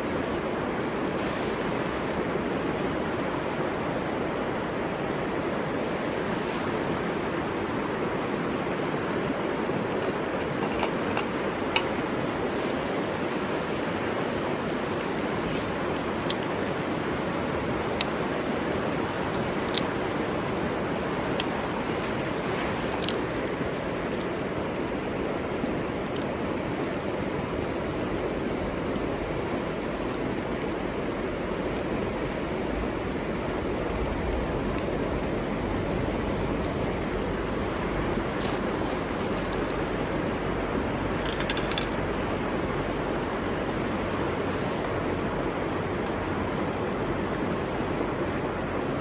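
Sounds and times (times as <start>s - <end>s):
river water flowing: 0.0s - 49.0s.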